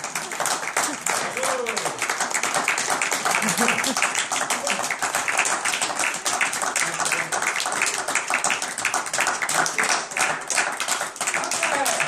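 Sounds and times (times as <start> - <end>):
people applauding: 0.0 - 12.0.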